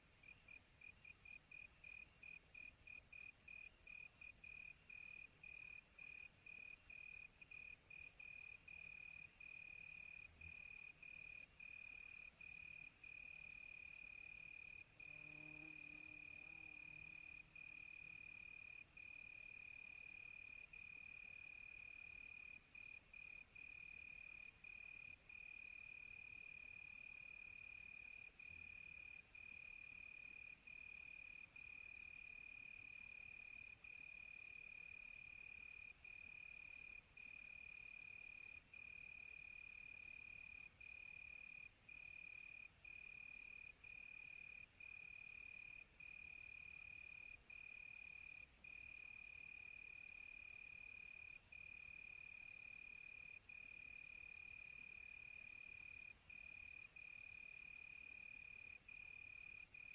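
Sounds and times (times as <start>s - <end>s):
faint high insect hiss: 0.0s - 59.9s.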